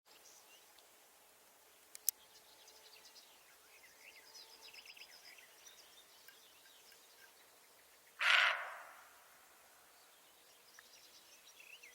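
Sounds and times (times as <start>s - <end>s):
small birds chirping: 1.7s - 11.9s.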